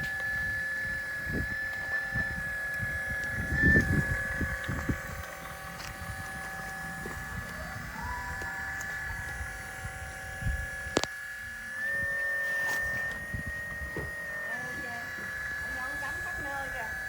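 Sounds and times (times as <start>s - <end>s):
hydraulic pump whining: 0.0s - 17.0s
wind rumble on microphone: 0.0s - 17.0s.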